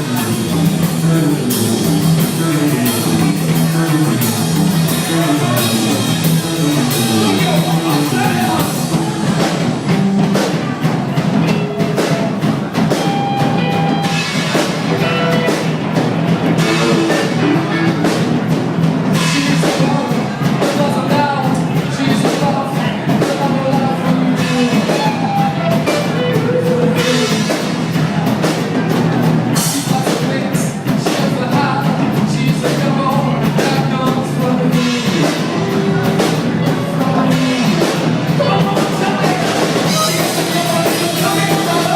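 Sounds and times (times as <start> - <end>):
person singing: 0.0 - 15.7, 19.1 - 28.0, 29.5 - 41.9
drum kit steady beat: 0.0 - 41.9
guitar: 0.0 - 41.9.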